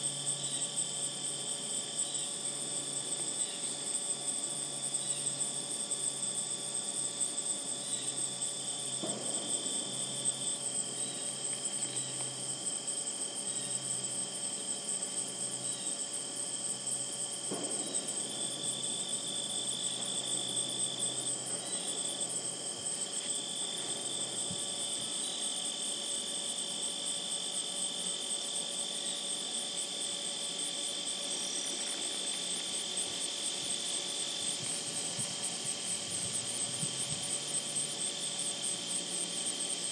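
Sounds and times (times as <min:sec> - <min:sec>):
high-pitched insect trill: 0:00.0 - 0:39.9
lower insect trill: 0:00.0 - 0:39.9.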